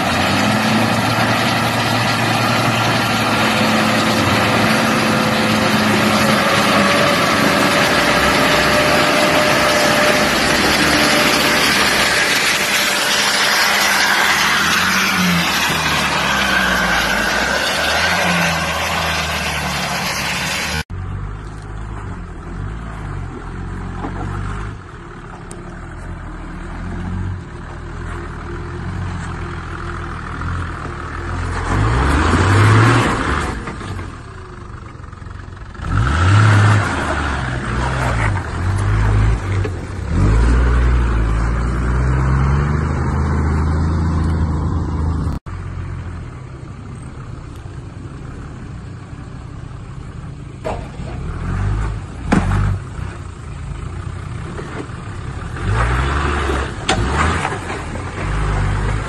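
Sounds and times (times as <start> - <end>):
truck engine revving off-road: 0.0 - 59.0.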